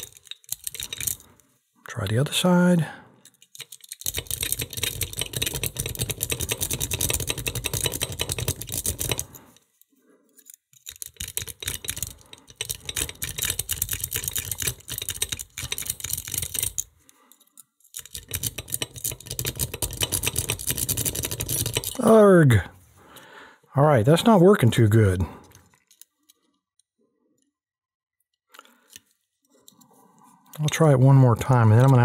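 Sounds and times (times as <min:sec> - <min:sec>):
lock pick clicking and scraping: 0:00.0 - 0:01.4, 0:03.2 - 0:22.2, 0:25.4 - 0:27.5, 0:28.5 - 0:32.0.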